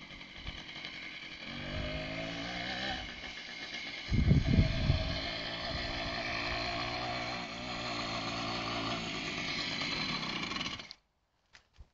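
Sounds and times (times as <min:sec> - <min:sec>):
moped engine running: 0:00.0 - 0:11.0.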